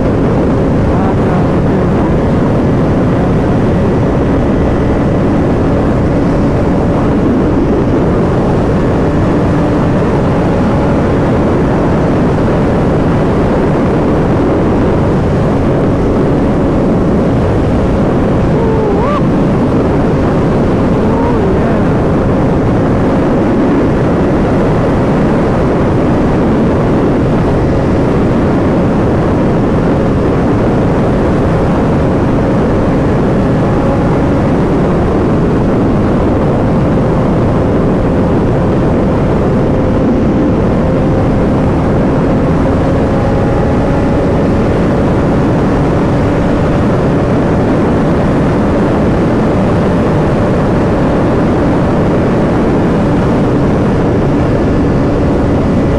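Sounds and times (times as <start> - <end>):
motorcycle engine drone: 0.0 - 55.9
rushing wind noise: 0.0 - 55.9.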